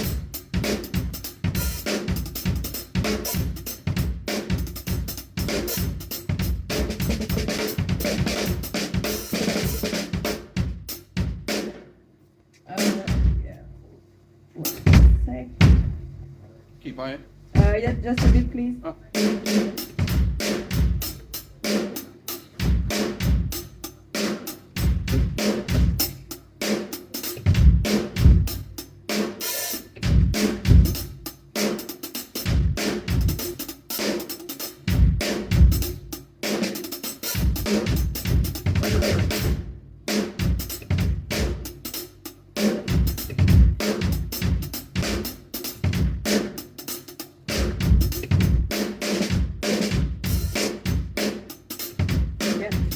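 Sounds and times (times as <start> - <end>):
acoustic drum kit playing: 0.0 - 12.0, 12.7 - 13.8, 14.6 - 16.4, 17.6 - 52.9.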